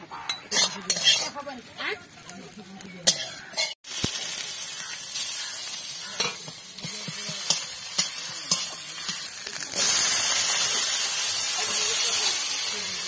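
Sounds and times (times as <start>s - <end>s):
metal spatula scraping wok: 0.0s - 2.0s, 3.0s - 3.8s, 5.2s - 13.0s
spices frying in oil: 0.5s - 13.0s
loud steady sizzle: 0.6s - 13.0s.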